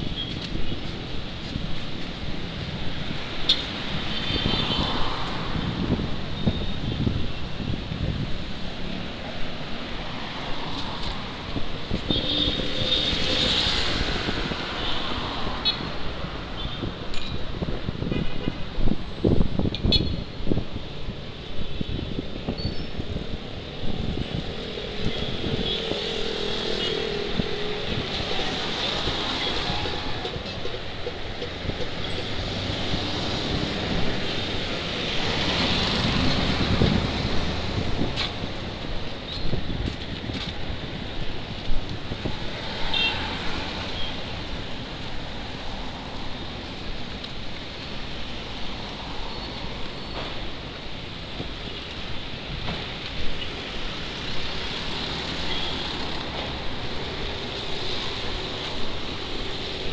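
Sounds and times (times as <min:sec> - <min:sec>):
traffic on a wet road: 0:00.0 - 0:59.9.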